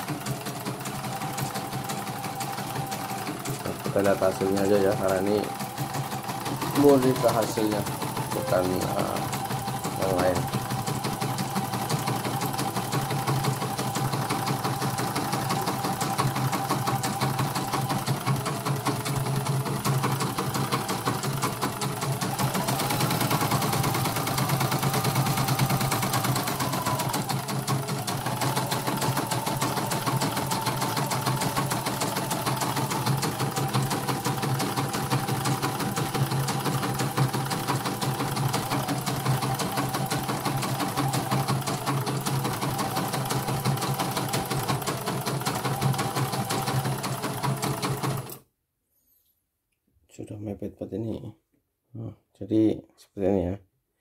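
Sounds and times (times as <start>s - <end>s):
embroidery machine needle rhythm: 0.0s - 48.1s.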